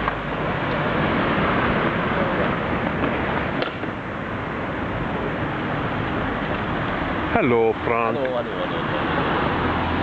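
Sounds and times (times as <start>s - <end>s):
passing traffic: 0.0s - 10.0s.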